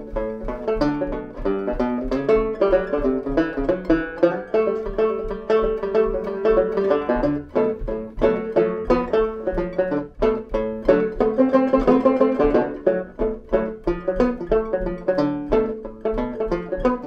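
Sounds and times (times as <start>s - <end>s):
plucked banjo notes: 0.0s - 17.0s.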